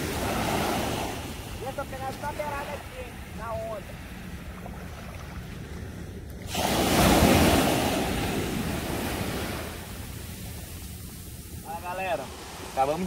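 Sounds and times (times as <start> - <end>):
sea wave breaking and washing: 0.0 - 13.0
wind rumbling on microphone: 0.0 - 13.0.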